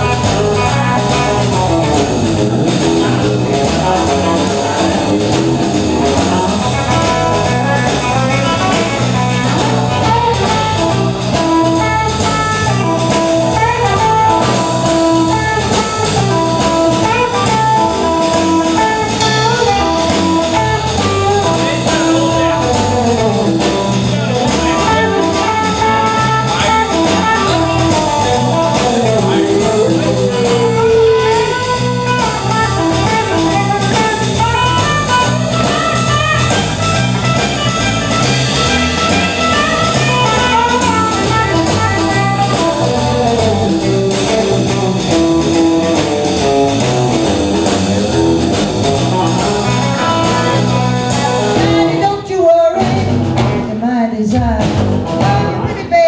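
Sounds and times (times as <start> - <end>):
drum kit beat: 0.0 - 56.0
guitar melody: 0.0 - 56.0.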